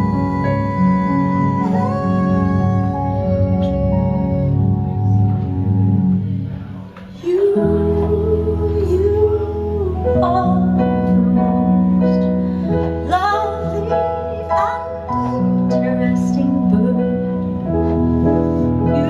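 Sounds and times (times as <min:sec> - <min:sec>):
woman singing slow song: 0:00.0 - 0:05.3, 0:07.1 - 0:17.7, 0:18.8 - 0:19.0
sustained keyboard chords: 0:00.0 - 0:19.0.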